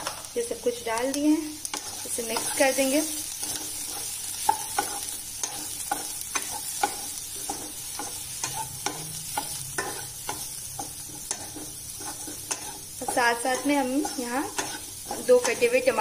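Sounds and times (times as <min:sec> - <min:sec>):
vegetables sizzling in oil: 0:00.0 - 0:16.0
spatula scraping and tapping pan: 0:01.0 - 0:16.0.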